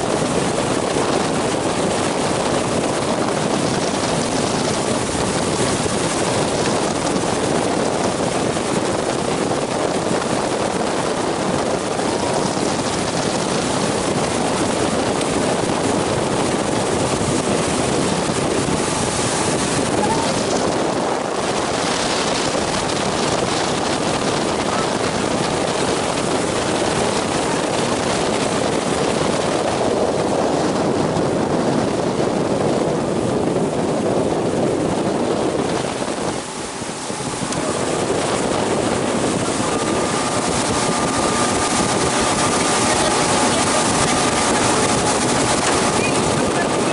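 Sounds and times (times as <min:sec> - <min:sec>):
motorboat engine drone: 0:00.0 - 0:46.9
water rushing past hull: 0:00.0 - 0:46.9.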